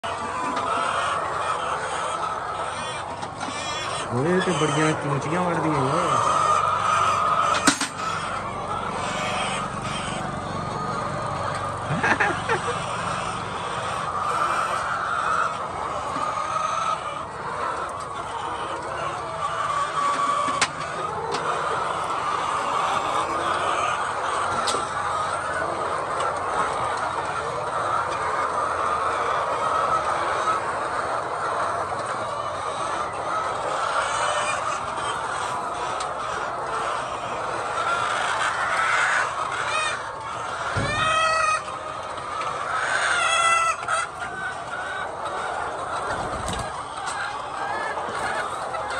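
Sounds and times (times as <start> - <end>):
drawn-out hen calls: 0.0 - 48.9
hens clucking: 0.0 - 48.9.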